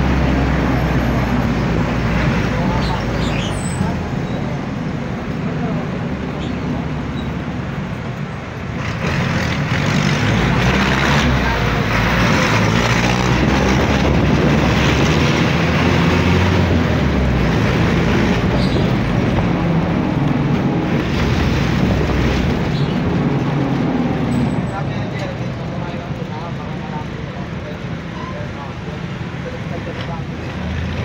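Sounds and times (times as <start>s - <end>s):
traffic noise rush: 0.0s - 31.0s.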